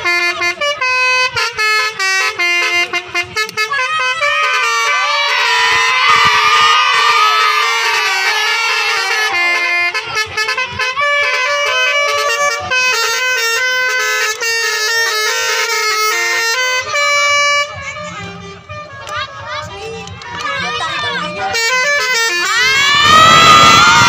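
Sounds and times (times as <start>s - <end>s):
multi-tone air horn melody: 0.0s - 24.0s.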